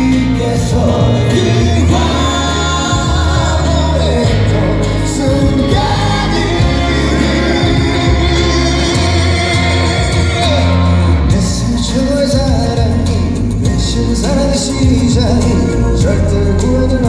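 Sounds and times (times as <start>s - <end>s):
heavy bass line: 0.0s - 17.0s
live pop band: 0.0s - 17.0s
person singing: 0.0s - 17.0s.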